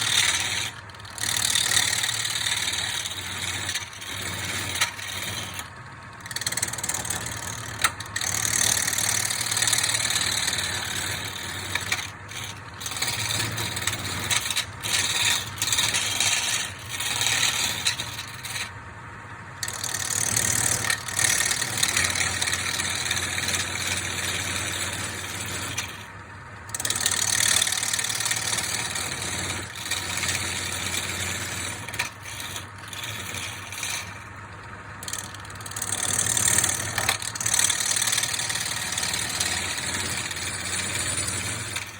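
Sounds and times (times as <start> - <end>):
turning tool scraping wood: 0.0 - 18.8, 19.6 - 41.9
lathe motor hum: 0.0 - 41.9.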